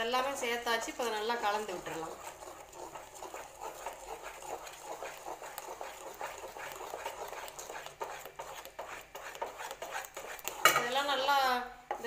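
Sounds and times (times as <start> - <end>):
wooden spatula scraping thick paste: 0.0 - 12.0.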